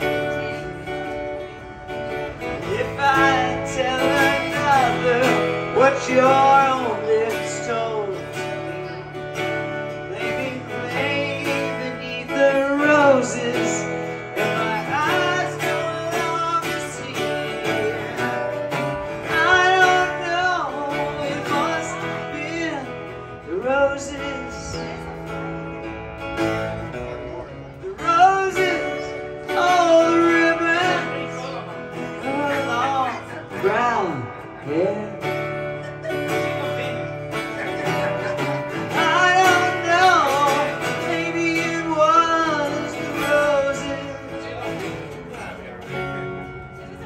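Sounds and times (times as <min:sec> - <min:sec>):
acoustic guitar strumming: 0:00.0 - 0:47.0
man singing: 0:00.0 - 0:47.0.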